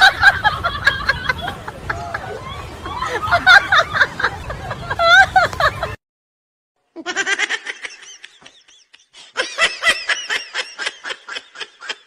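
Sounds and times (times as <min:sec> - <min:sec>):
high-pitched laughter: 0:00.0 - 0:06.0, 0:07.0 - 0:12.0.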